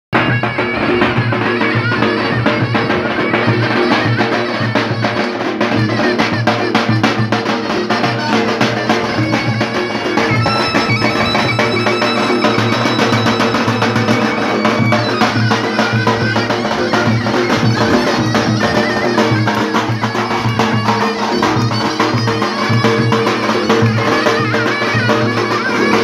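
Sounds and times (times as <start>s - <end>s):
reedy wind instrument melody: 0.2s - 26.0s
steady drum beat: 0.2s - 26.0s.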